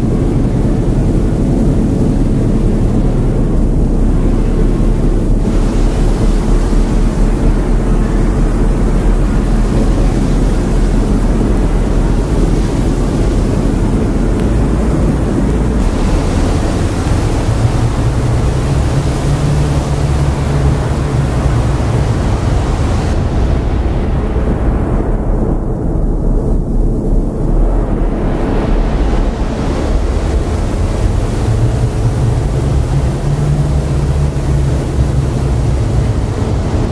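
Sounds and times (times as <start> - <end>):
low droning hum: 0.0 - 36.9
processed noise wash: 0.0 - 36.9.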